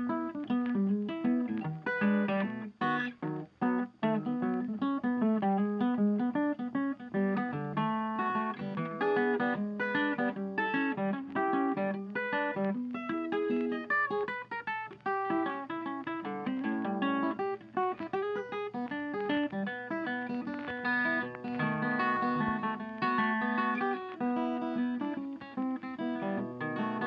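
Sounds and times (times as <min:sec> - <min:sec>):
plucked guitar music: 0:00.0 - 0:27.0.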